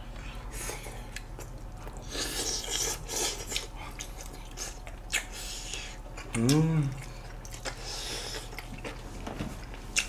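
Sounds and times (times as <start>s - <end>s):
wet chewing mouth sounds: 0.0s - 9.0s, 9.6s - 10.0s.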